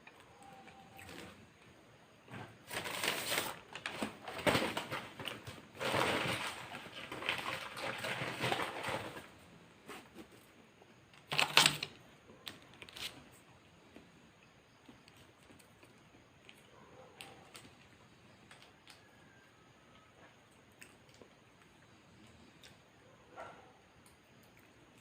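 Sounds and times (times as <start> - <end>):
eating crackling and rustling: 0.0 - 23.0.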